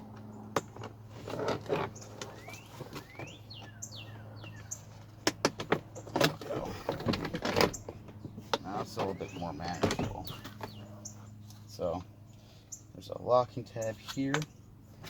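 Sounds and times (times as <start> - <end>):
birds chirping: 1.6 - 15.0.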